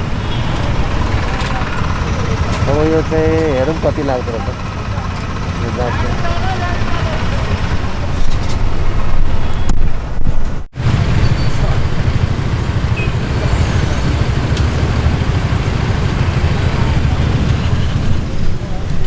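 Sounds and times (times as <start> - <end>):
traffic engine rumble: 0.0 - 19.0.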